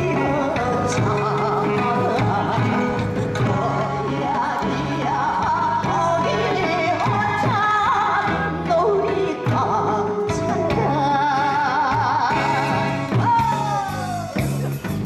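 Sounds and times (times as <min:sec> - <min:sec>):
woman singing into a microphone: 0:00.0 - 0:14.3
backing track with drum beat: 0:00.0 - 0:15.0.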